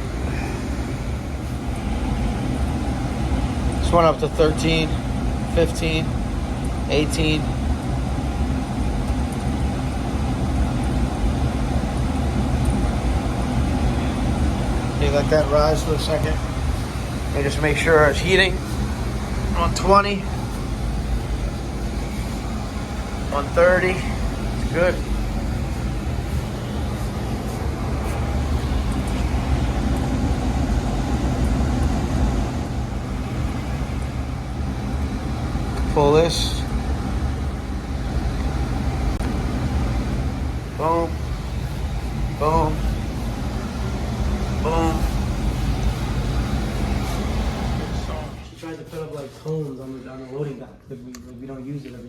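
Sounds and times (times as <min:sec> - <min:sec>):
boiler burner rumbling: 0:00.0 - 0:51.7.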